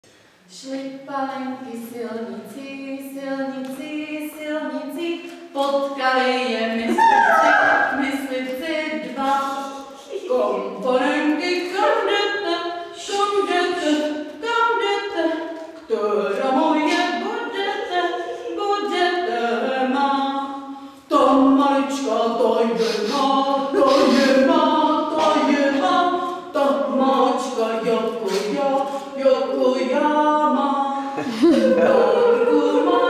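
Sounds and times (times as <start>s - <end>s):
group singing unaccompanied: 6.4s - 33.0s.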